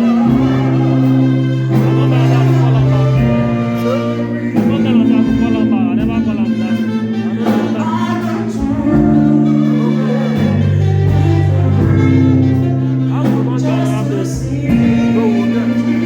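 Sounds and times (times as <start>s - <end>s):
person singing: 0.0s - 16.0s
slow instrumental backing track: 0.0s - 16.0s.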